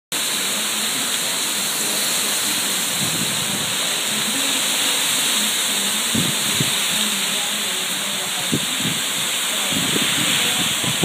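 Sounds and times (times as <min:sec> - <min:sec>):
heavy rain hissing: 0:00.1 - 0:11.0.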